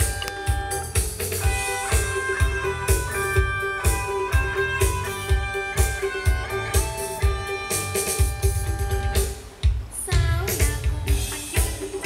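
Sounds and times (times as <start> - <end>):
guitar music with drum beat: 0.0 - 12.0.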